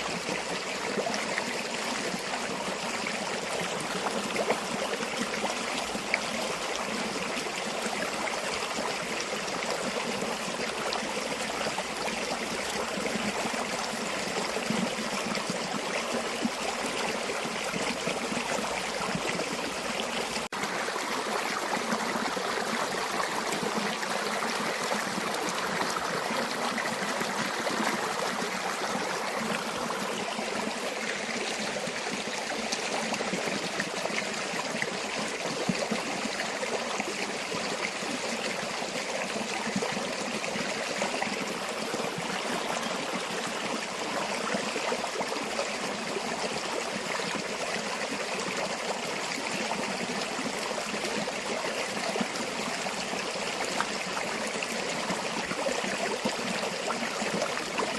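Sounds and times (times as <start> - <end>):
river water flowing: 0.0 - 57.9.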